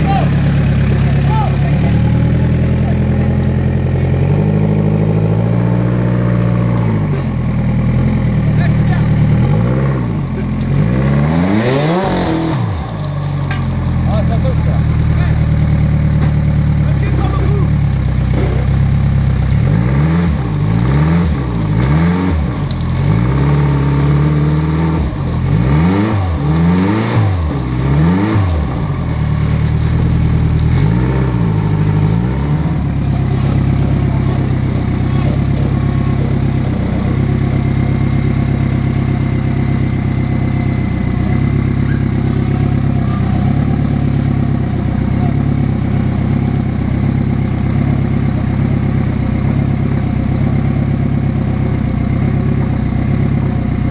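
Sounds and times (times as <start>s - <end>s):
engine revving in blips: 0.0s - 17.6s, 18.2s - 47.8s.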